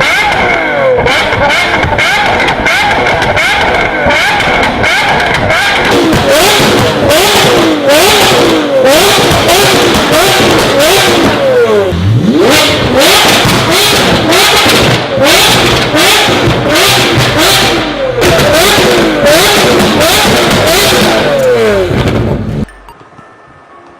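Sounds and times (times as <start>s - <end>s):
recorded engine revving: 0.0s - 22.7s.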